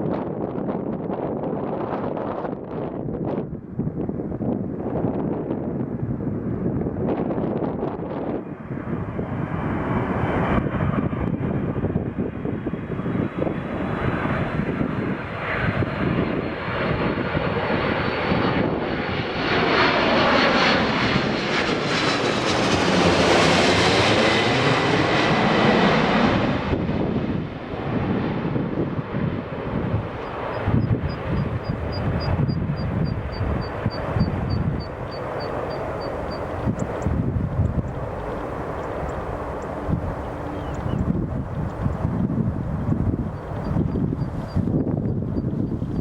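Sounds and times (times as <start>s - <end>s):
airliner jet engines whining: 4.1s - 46.0s.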